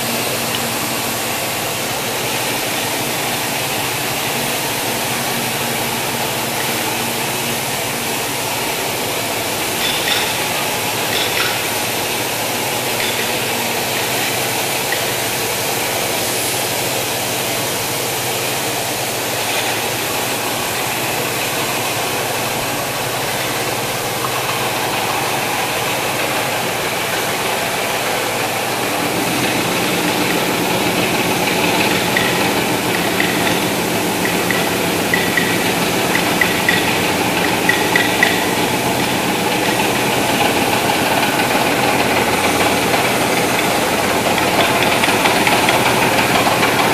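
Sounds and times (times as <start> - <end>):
machine hum: 0.0 - 46.9
woodworking machinery drone: 0.0 - 46.9.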